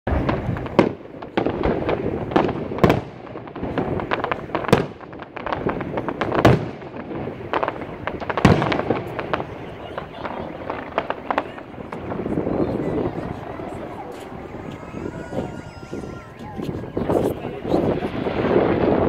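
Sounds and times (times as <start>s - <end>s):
small firework cracks and pops: 0.1s - 17.1s.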